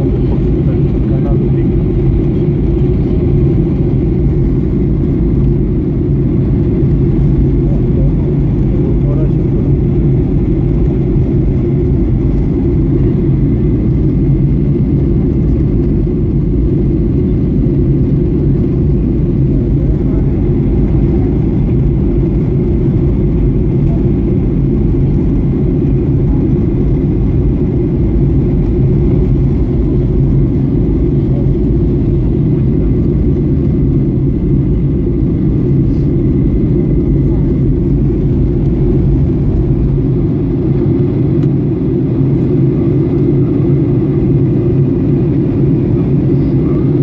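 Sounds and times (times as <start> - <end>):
airliner engines and airflow rumble: 0.0 - 47.0.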